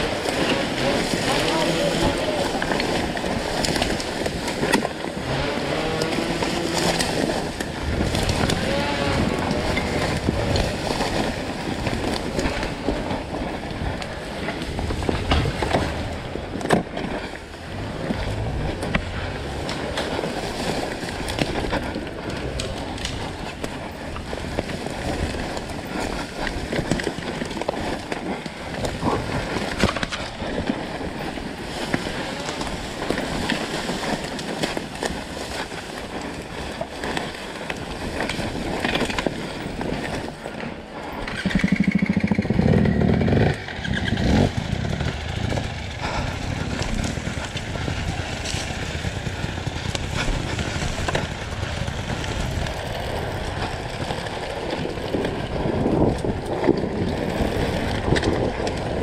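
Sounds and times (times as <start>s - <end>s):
rough scraping and rustling: 0.0s - 59.0s
wind buffeting microphone: 0.0s - 59.0s.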